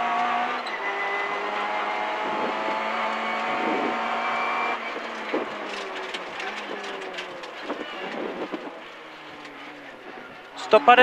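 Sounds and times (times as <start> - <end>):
car engine at high revs: 0.0 - 11.0
road noise inside car: 0.0 - 11.0.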